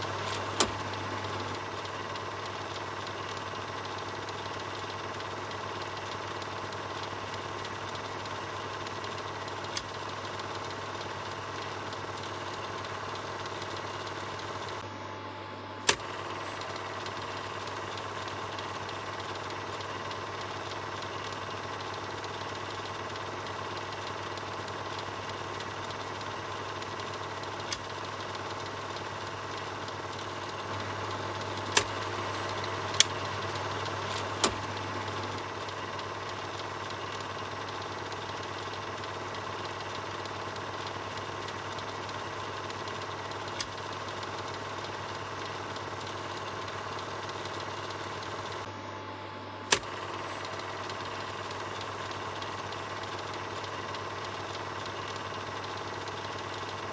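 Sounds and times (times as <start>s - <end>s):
projector clicks: 0.0s - 14.9s, 15.8s - 48.7s, 49.6s - 56.9s
film projector whirring: 0.0s - 56.9s.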